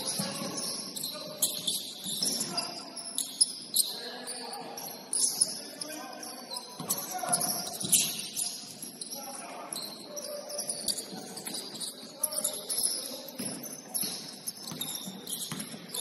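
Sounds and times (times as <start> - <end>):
sneakers squeaking on court floor: 0.0 - 16.0.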